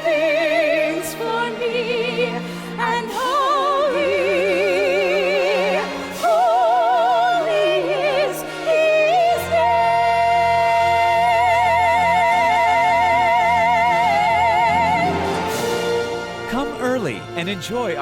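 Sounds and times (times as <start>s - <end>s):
orchestral accompaniment: 0.0s - 18.0s.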